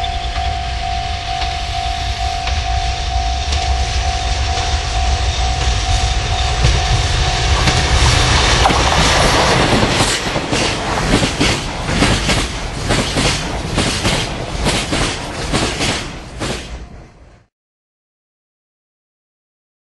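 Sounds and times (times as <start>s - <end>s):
train wheels clicking over rail joints: 0.0s - 17.4s
diesel locomotive engine rumble: 0.0s - 17.5s.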